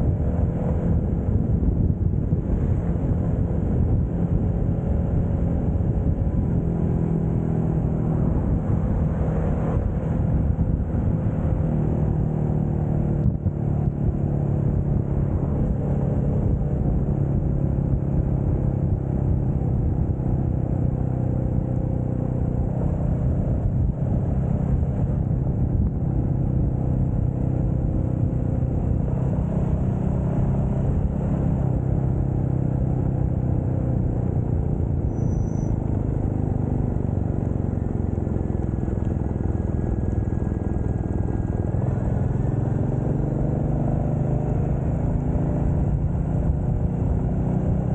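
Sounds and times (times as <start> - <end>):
motorcycle engine cruising: 0.0 - 47.9
wind rumble on microphone: 0.0 - 47.9.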